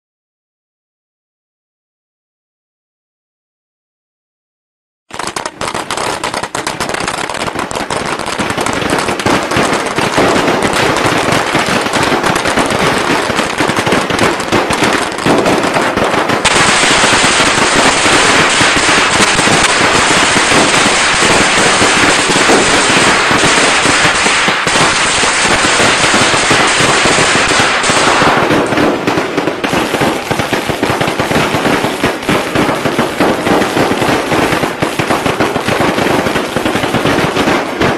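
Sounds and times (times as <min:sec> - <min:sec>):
firecrackers popping rapidly: 0:05.1 - 0:37.9.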